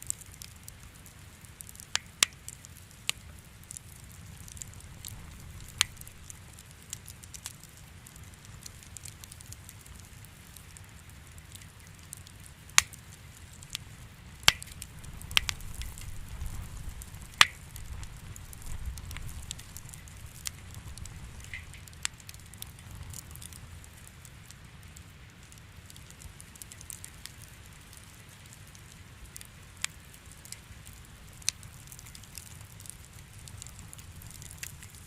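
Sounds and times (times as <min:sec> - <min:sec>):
fire popping: 0:00.0 - 0:35.0
wood fire crackling: 0:00.0 - 0:35.0.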